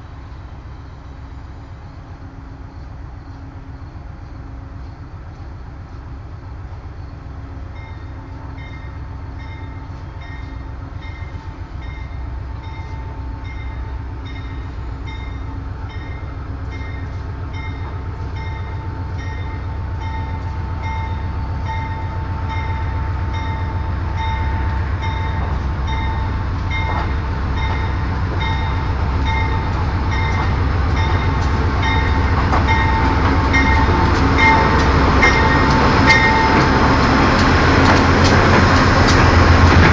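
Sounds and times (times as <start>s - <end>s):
diesel train rumble: 0.0s - 39.9s.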